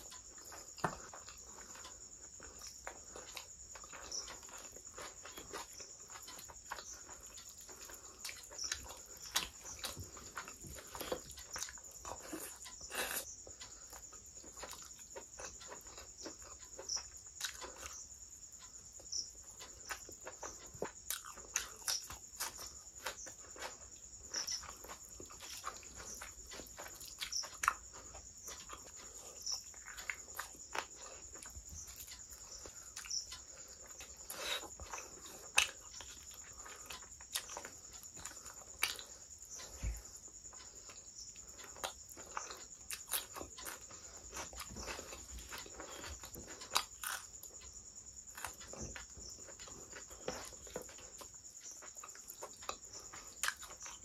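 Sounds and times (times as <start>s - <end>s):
person chewing and lip smacking: 0.0s - 18.0s, 18.9s - 54.0s.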